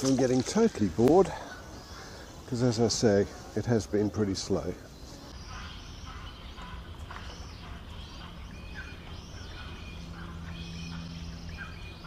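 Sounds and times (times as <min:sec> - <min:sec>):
birds chirping and calling: 0:00.0 - 0:12.0
low steady hum: 0:00.0 - 0:12.0.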